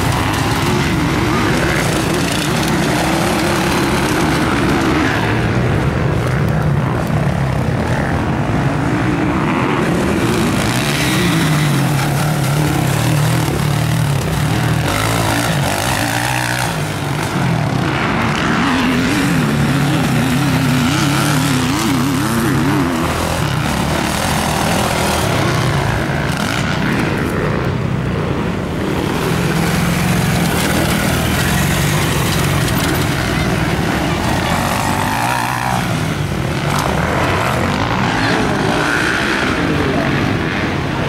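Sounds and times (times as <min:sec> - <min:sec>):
motocross bike engines running hard: 0:00.0 - 0:41.0.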